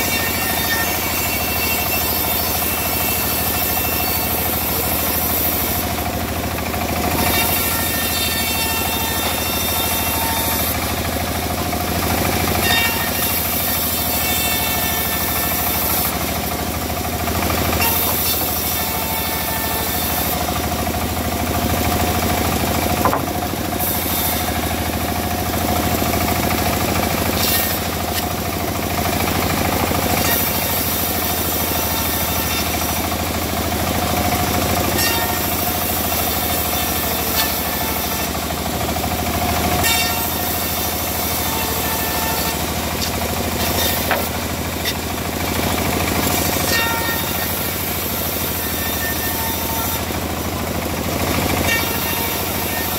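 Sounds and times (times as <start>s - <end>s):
engine-driven saw cutting wood: 0.0s - 52.9s.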